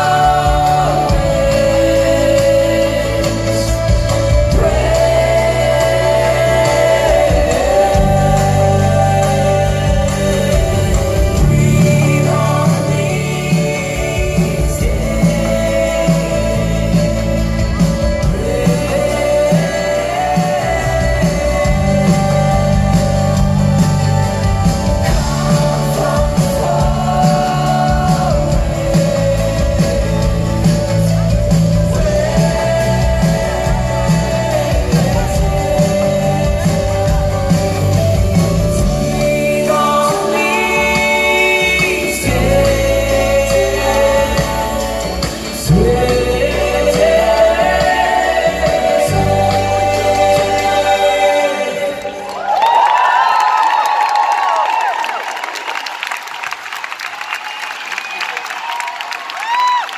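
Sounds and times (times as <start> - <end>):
live rock band playing: 0.0 - 52.6
man singing: 0.0 - 52.6.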